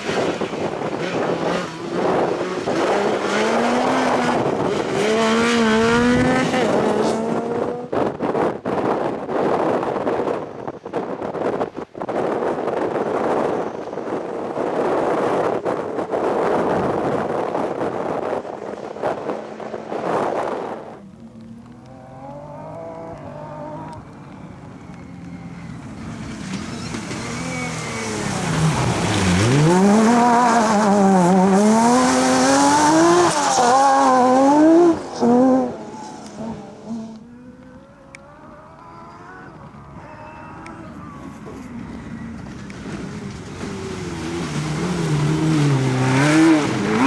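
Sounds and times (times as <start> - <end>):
rally car engine revving: 0.0 - 8.5, 16.3 - 47.0
tyre gravel and wind rush: 0.0 - 37.2, 39.2 - 47.0.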